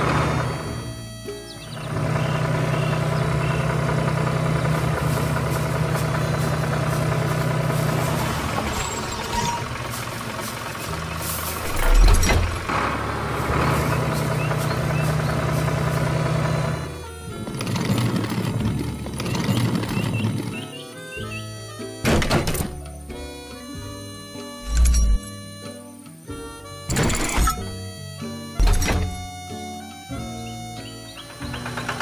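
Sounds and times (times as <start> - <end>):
heavy vehicle engine running: 0.0 - 32.0.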